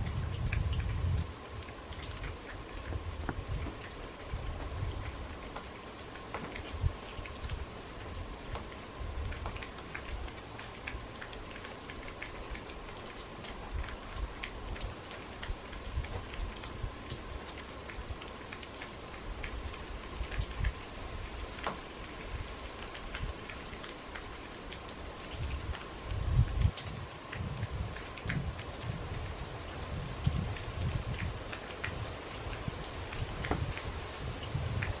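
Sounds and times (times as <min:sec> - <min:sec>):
meltwater dripping off roof: 0:00.0 - 0:35.0.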